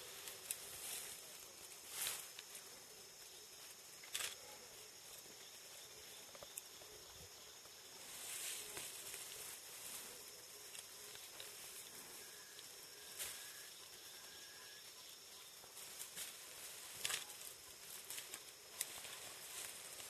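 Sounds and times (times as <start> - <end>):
high insect hiss: 0.0 - 20.0.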